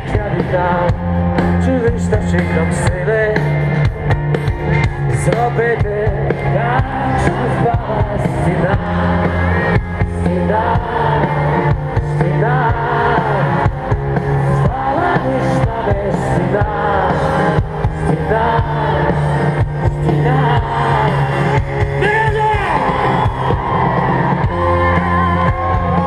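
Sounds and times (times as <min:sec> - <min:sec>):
person singing: 0:00.0 - 0:03.8, 0:05.0 - 0:23.6
live band over sound system: 0:00.0 - 0:26.0.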